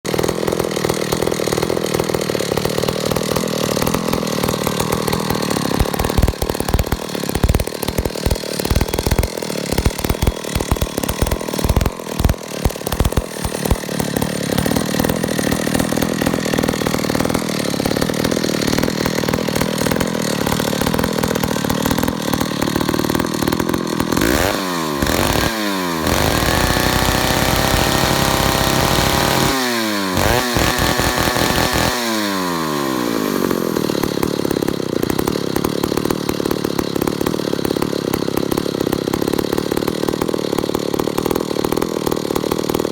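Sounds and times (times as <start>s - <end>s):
chainsaw engine running and revving: 0.0s - 42.9s.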